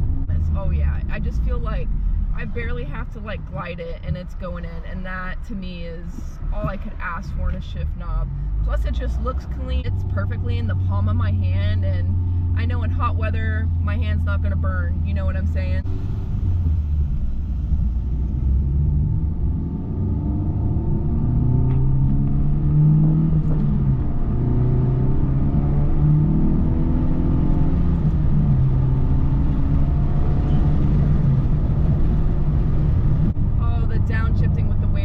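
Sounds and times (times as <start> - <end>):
road rumble: 0.0 - 35.0
car engine accelerating: 6.2 - 35.0.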